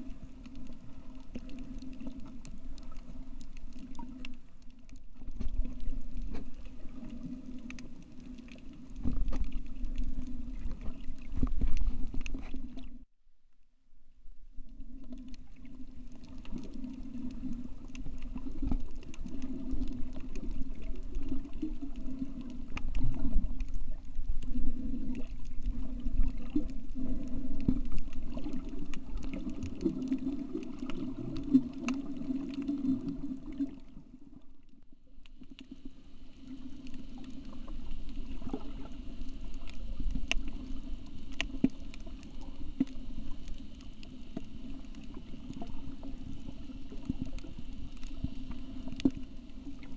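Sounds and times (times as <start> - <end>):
low underwater drone: 0.0 - 13.1, 13.7 - 49.9
sharp underwater clicks: 0.4 - 12.9, 16.0 - 33.8, 36.8 - 49.9.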